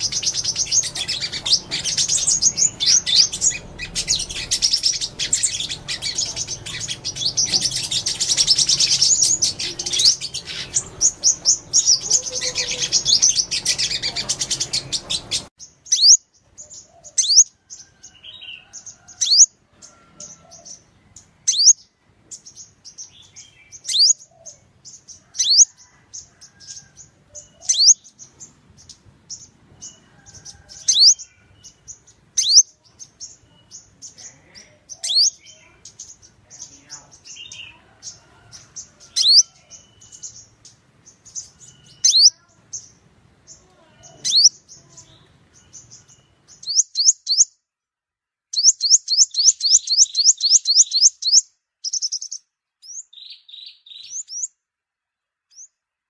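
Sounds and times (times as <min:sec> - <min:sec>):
birds chattering and twittering: 0:00.0 - 0:47.7, 0:48.5 - 0:56.0
background noise: 0:00.0 - 0:56.0.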